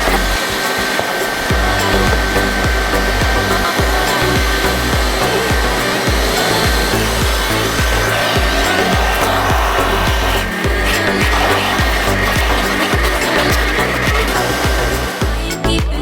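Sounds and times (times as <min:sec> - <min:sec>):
vacuum cleaner running: 0:00.0 - 0:15.4
background music with beat: 0:00.0 - 0:16.0.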